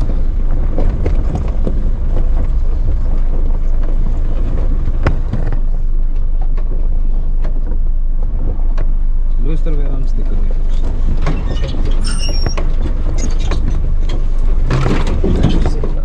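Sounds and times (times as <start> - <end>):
engine running at low speed: 0.0 - 16.0.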